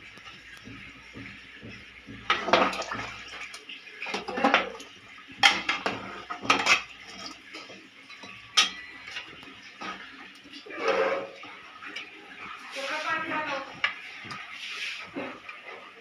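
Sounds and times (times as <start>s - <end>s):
metal ladle scraping pot: 2.2s - 15.9s.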